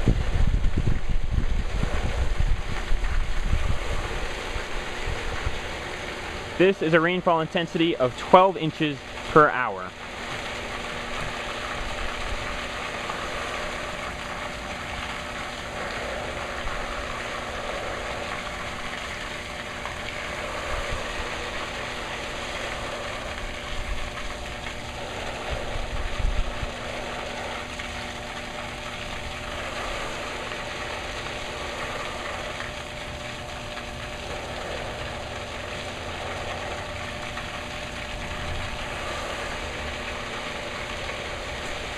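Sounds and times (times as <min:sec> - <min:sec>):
machine hum: 0:00.0 - 0:41.9.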